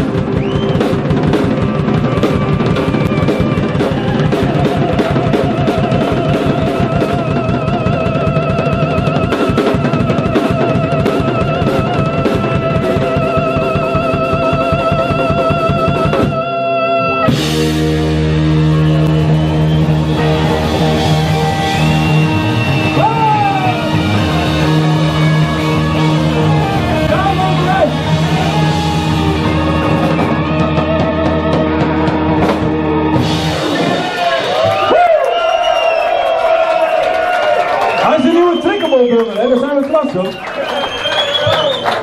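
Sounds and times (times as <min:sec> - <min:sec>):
lead guitar bending notes: 0:00.0 - 0:34.9
blues-rock band playing: 0:00.0 - 0:42.0.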